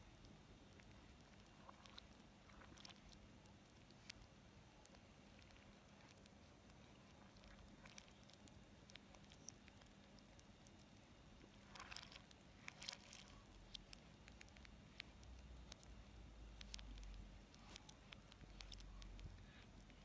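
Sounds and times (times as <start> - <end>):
low steady hum: 0.0 - 20.0
reversed milk crackling on cereal: 0.0 - 20.0.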